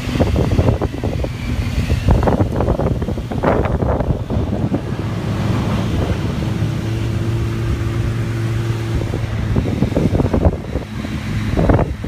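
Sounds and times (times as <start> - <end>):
snowmobile engine running: 0.0 - 12.0
wind rumbling on microphone: 0.0 - 12.0.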